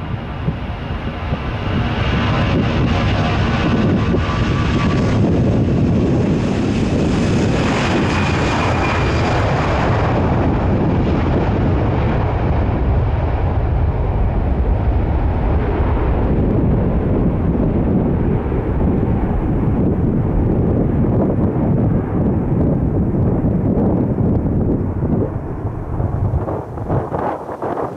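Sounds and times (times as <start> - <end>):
airliner engines passing: 0.0 - 27.9.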